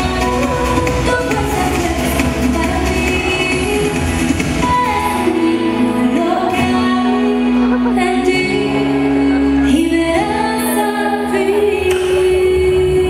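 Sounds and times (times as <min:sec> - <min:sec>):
woman singing over backing music: 0:00.0 - 0:13.0.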